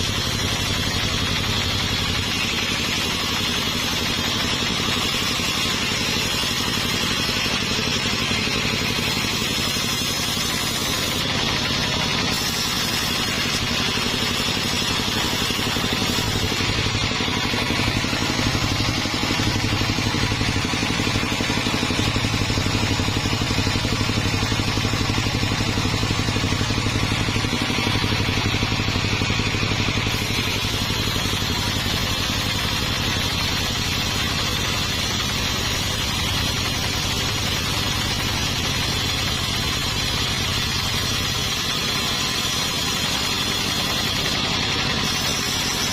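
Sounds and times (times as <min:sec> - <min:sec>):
sawmill machinery motor drone: 0:00.0 - 0:45.9.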